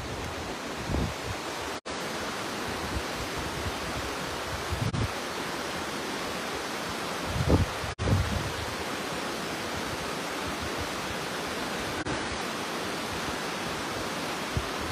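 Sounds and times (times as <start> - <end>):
river rushing: 0.0 - 14.9.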